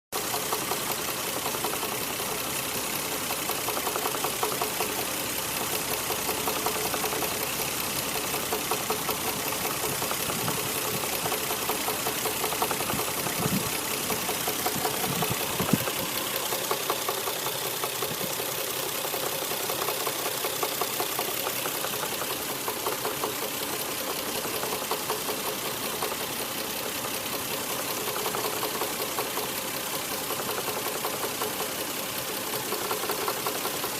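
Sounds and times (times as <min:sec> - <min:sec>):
car engine idling: 0:00.2 - 0:33.9
rapid engine knocking: 0:00.2 - 0:33.9.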